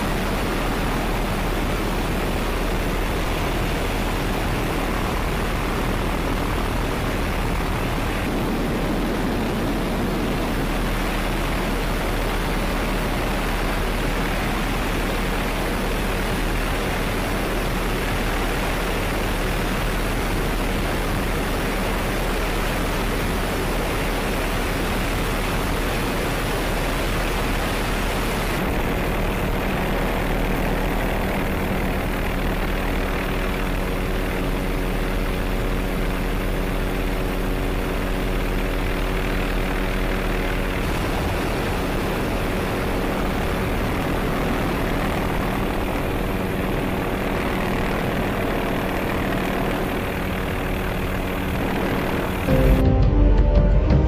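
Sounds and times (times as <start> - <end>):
helicopter engine and rotor: 0.0 - 52.7.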